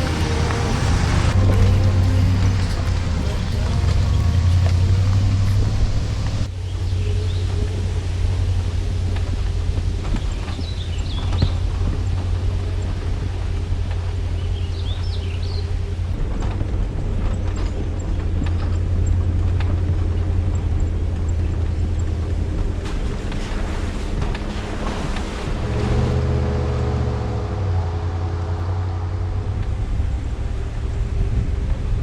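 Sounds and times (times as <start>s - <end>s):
pitched engine tone: 0.0s - 32.0s
vehicle engine and road rumble: 0.0s - 32.0s
wind noise: 0.0s - 32.0s.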